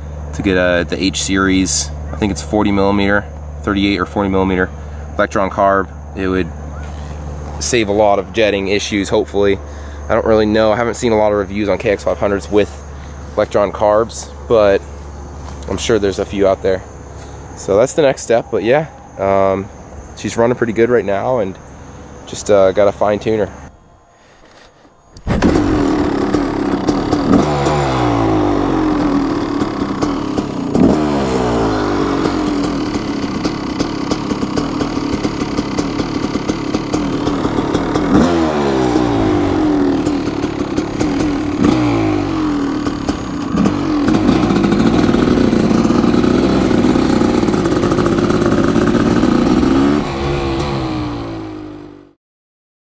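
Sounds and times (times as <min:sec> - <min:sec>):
motorcycle engine revving: 0:00.0 - 0:18.2, 0:25.2 - 0:52.2.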